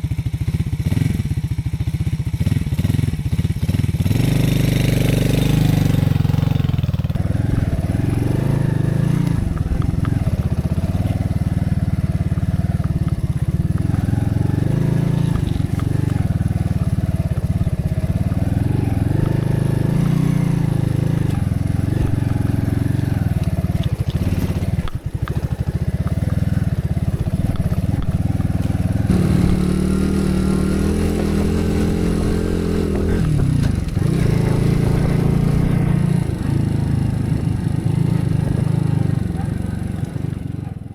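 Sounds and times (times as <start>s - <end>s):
small vehicle engine running: 0.0s - 40.9s.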